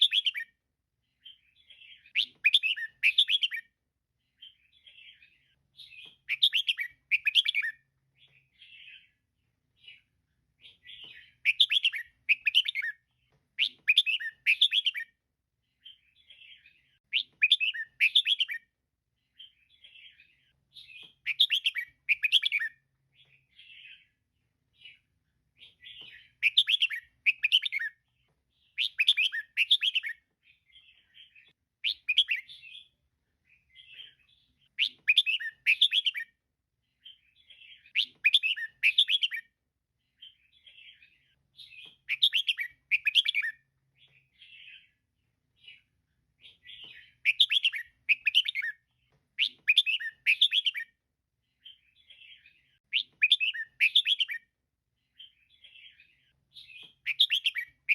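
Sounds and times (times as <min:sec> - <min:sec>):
bird chirping: 0:00.0 - 0:57.9.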